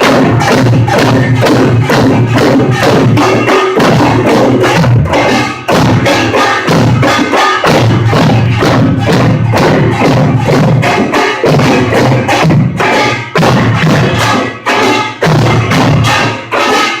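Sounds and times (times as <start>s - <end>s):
drums playing fast rhythm: 0.0s - 17.0s
small gongs clanging: 0.0s - 17.0s.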